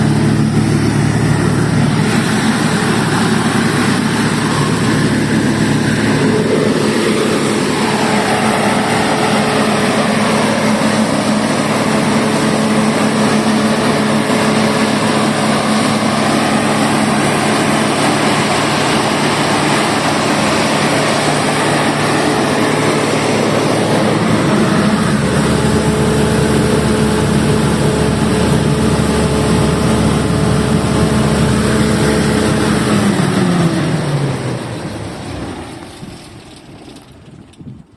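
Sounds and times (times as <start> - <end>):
diesel generator running: 0.0 - 37.9.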